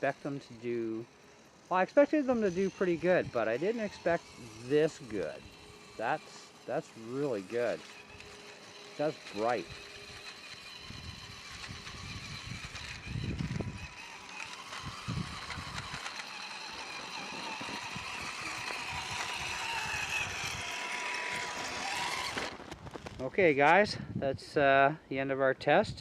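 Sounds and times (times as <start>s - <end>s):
electric motor whine: 0.0s - 23.2s.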